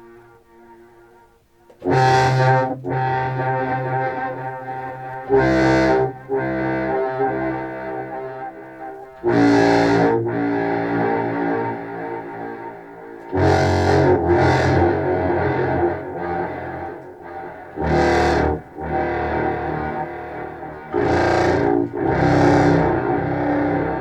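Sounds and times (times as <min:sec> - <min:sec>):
distorted low clarinet notes: 0:00.0 - 0:24.0.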